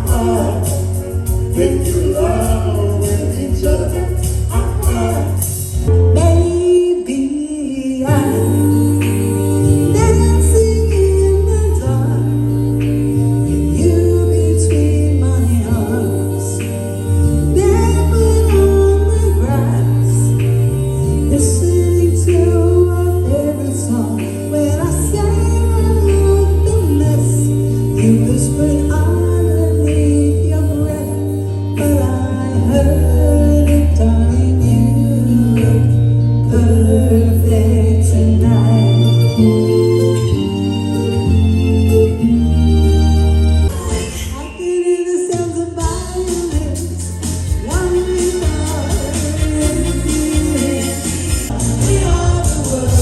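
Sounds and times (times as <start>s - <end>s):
steady bass line: 0.0s - 7.2s, 8.0s - 44.4s, 45.8s - 53.0s
vocal duo singing pop song: 0.0s - 42.5s, 43.7s - 53.0s
backing track: 0.0s - 53.0s.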